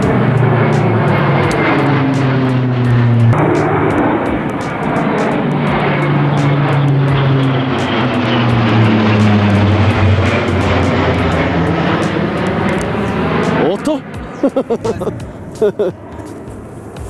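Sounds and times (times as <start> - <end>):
propeller aircraft flying overhead: 0.0 - 17.0.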